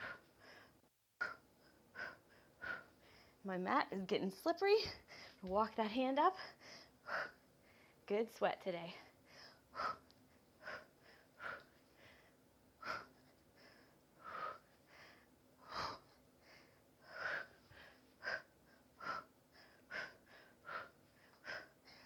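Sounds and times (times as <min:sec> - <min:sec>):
woman breathing hard: 0:00.0 - 0:03.4, 0:06.4 - 0:08.0, 0:09.0 - 0:22.0.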